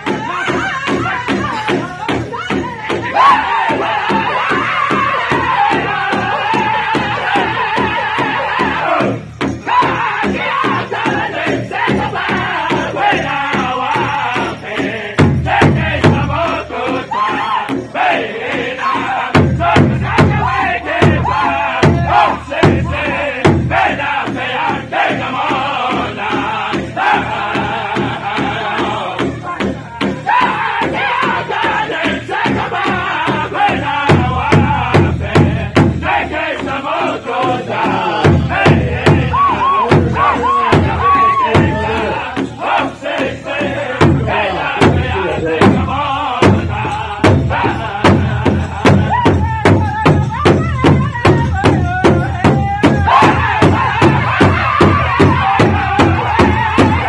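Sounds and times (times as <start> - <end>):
large hide drum beat: 0.0 - 57.0
men singing in chanted voices: 0.0 - 57.0.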